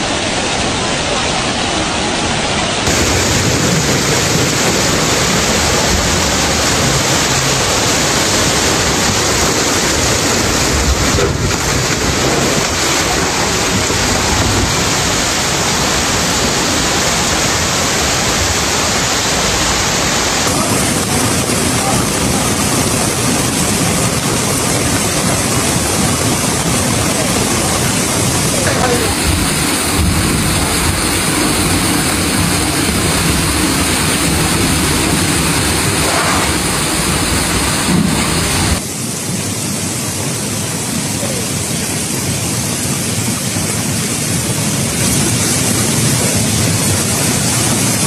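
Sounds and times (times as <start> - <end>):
floodwater rushing through street: 0.0 - 48.0.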